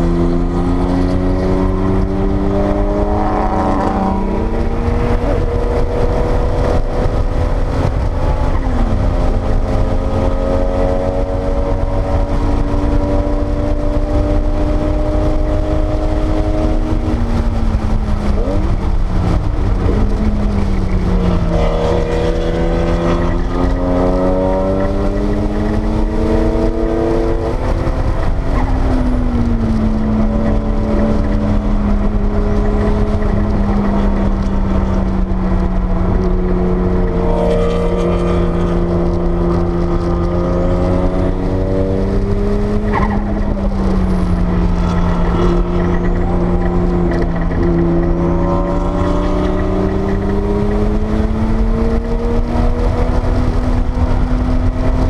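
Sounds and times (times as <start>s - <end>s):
car engine revving: 0.0s - 55.0s
road and wind rumble: 0.0s - 55.0s.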